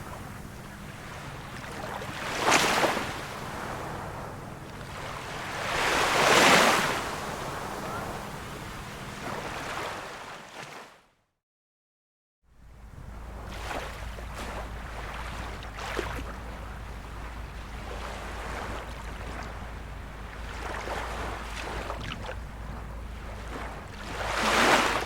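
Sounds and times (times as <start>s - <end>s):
sea waves washing in: 0.0s - 10.8s, 12.6s - 25.0s.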